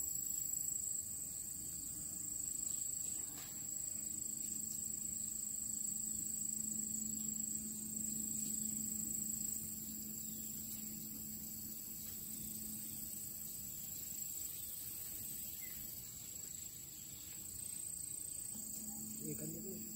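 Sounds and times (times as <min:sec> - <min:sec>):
insects trilling: 0:00.0 - 0:19.9
low steady hum: 0:01.0 - 0:19.9.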